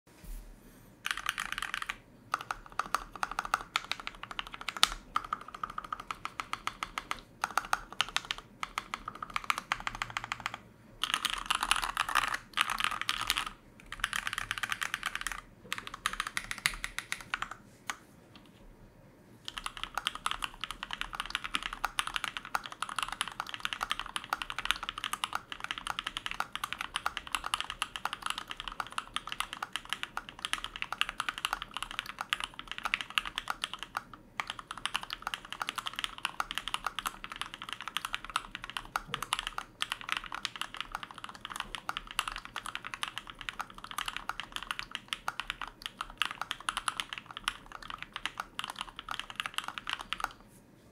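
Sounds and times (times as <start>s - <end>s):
typing on mechanical keyboard: 1.0s - 17.6s, 19.5s - 50.4s.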